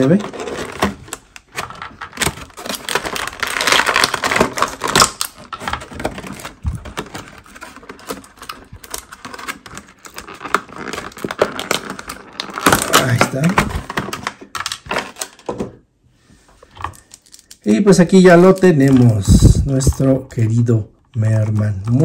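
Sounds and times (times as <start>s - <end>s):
plastic packaging crinkling: 0.0s - 15.6s, 16.6s - 22.0s.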